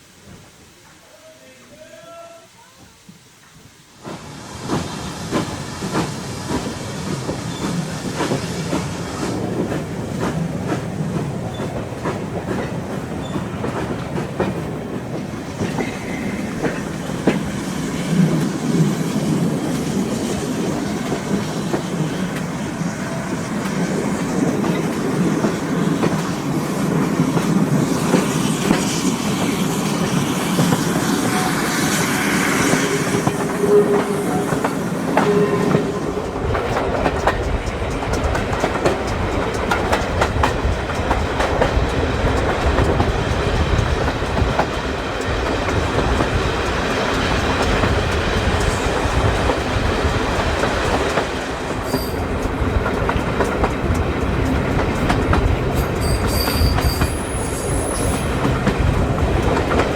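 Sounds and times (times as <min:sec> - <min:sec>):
train rumble: 0:03.0 - 0:59.9
train wheels clicking over rail joints: 0:04.0 - 0:59.9.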